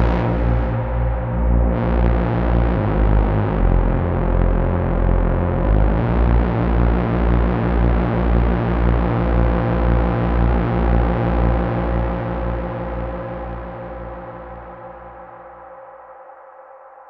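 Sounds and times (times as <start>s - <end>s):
pulsing low synth bass note: 0.0s - 15.1s.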